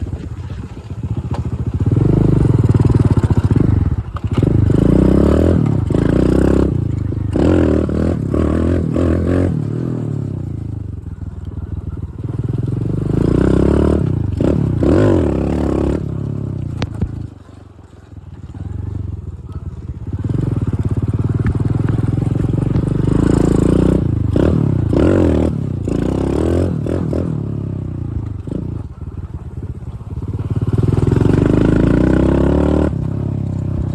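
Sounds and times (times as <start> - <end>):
dirt bike engine revving: 1.0 - 17.6, 18.4 - 33.9.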